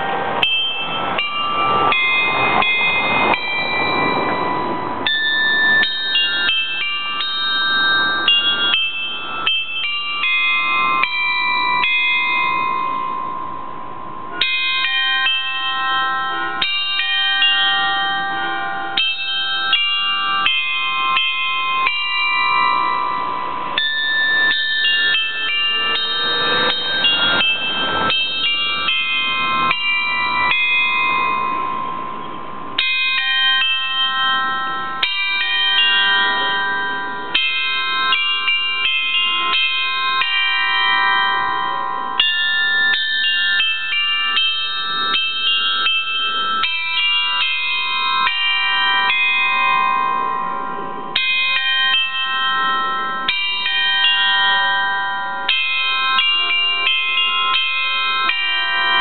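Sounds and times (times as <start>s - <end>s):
glockenspiel bells playing a tune: 0.0s - 59.0s.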